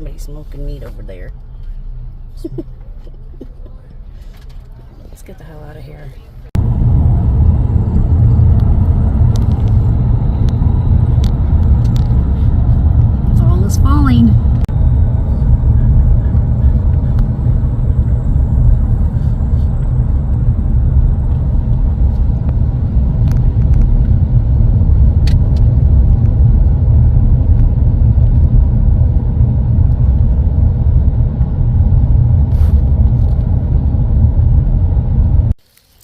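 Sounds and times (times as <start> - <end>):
car road rumble from inside: 0.0 - 35.6.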